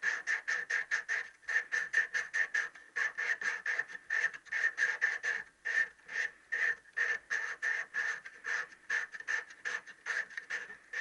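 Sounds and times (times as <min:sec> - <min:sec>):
hand reamer rasping squeak: 0:00.0 - 0:11.0.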